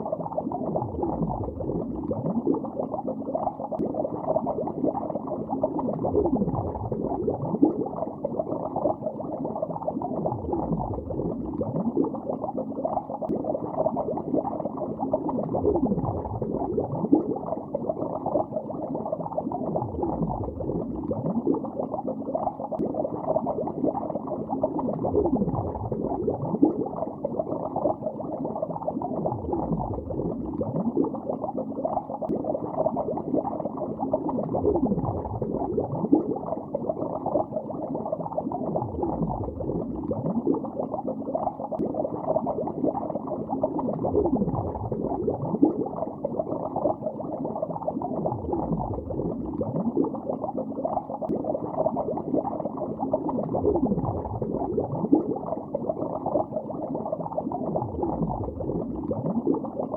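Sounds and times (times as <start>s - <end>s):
bubbles gurgling underwater: 0.0s - 59.9s.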